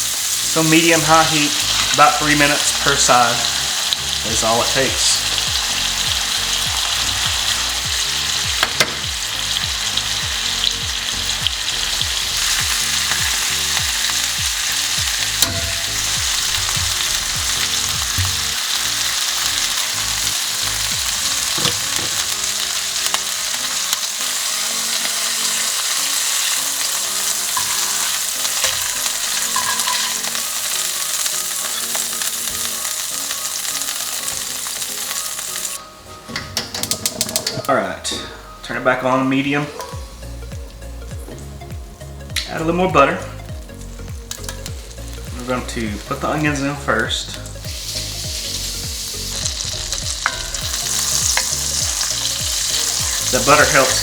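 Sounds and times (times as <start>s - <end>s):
chicken sizzling in a pan: 0.0s - 35.8s, 42.4s - 54.0s.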